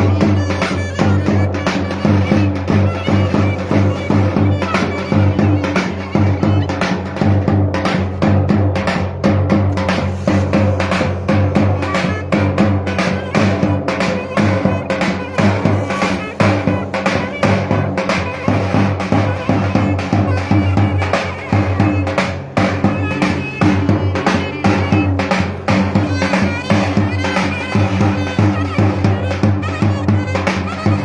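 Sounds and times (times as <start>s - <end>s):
clarinet melody: 0.0s - 7.1s, 9.9s - 31.0s
drum beating fast rhythm: 0.0s - 31.0s.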